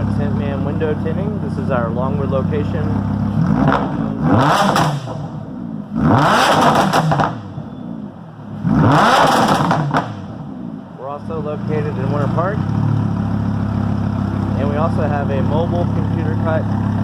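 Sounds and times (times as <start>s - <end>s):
exhaust crackles: 0.0s - 17.0s
sports car engine revving: 0.0s - 17.0s.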